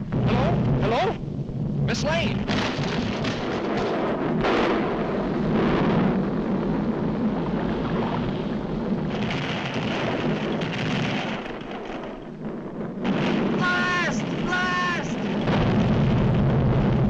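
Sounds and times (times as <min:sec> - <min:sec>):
cartoon volcano rumble: 0:00.0 - 0:17.0.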